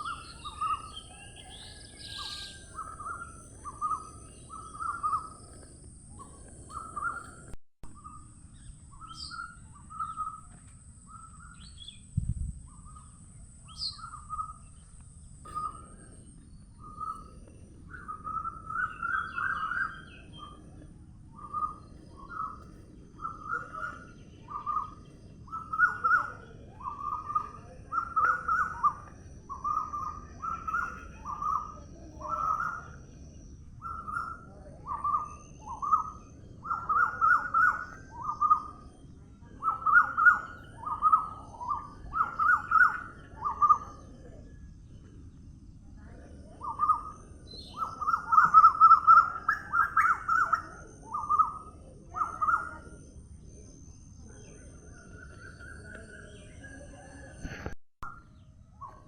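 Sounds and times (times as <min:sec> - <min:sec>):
bird chirping: 0:00.0 - 0:59.0
low steady background hum: 0:00.0 - 0:59.0.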